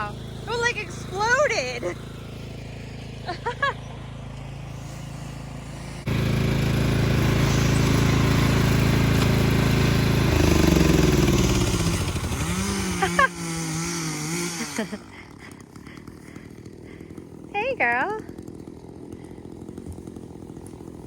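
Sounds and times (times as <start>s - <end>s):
engine idling: 0.0s - 14.0s, 14.8s - 21.0s
louder engine revving: 0.0s - 21.0s.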